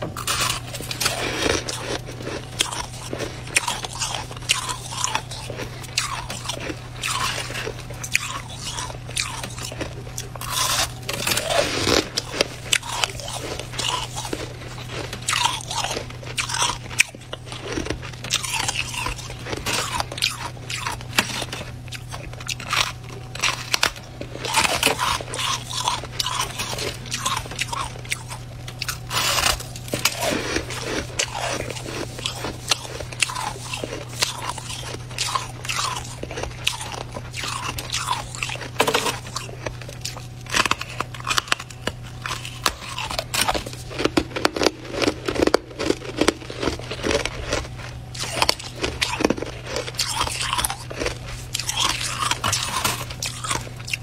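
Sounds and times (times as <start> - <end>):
frost being chewed: 0.0 - 54.0
steady low hum: 0.0 - 54.0.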